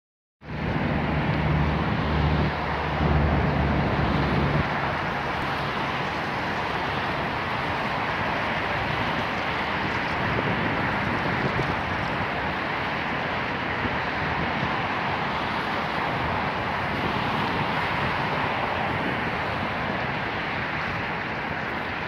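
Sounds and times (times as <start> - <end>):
distant vehicle traffic: 0.4 - 22.0
low engine hum: 0.4 - 22.0.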